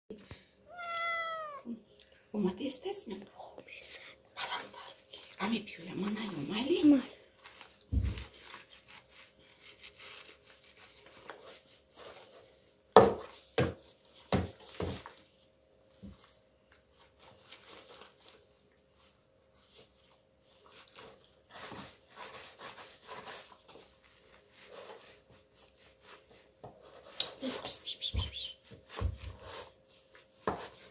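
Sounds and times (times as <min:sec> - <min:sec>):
cloth rubbing wet cat: 0:05.3 - 0:30.9.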